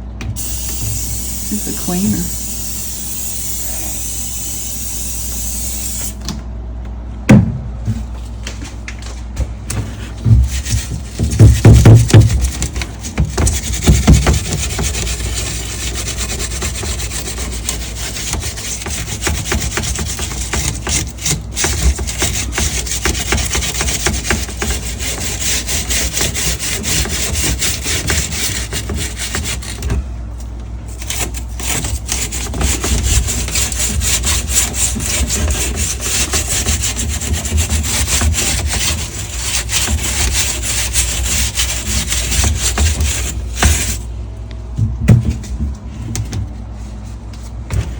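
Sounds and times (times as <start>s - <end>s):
scrubbing on a refrigerator: 0.0s - 6.2s, 7.7s - 47.9s.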